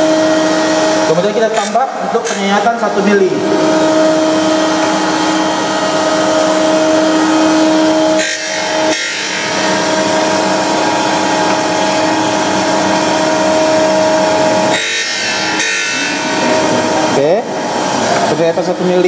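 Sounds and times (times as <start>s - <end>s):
surface grinder grinding: 0.0s - 19.0s.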